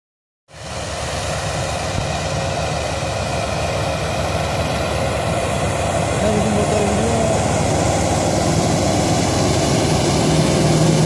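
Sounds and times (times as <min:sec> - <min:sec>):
diesel tractor engine running: 0:00.6 - 0:11.0.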